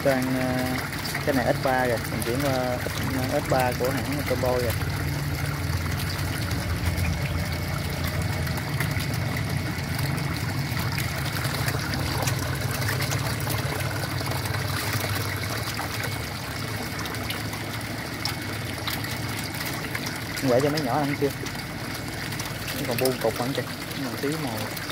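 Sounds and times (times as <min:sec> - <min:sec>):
low hum: 0:00.0 - 0:24.9
water trickling into a tank: 0:00.0 - 0:24.9.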